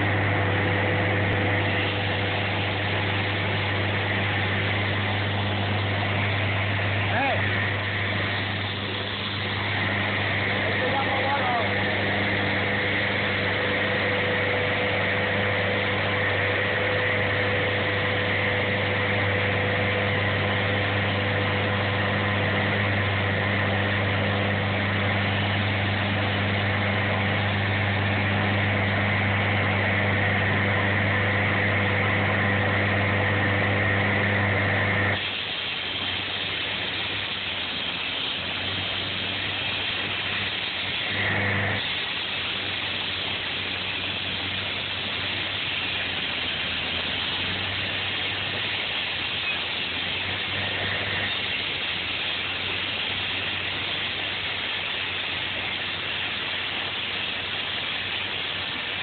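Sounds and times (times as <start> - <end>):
concrete saw engine running: 0.0 - 59.0.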